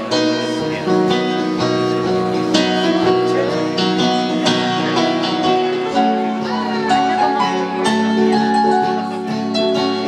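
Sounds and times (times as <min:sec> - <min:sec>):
guitar picked and strummed: 0:00.0 - 0:10.0
held keyboard chords: 0:00.0 - 0:10.0.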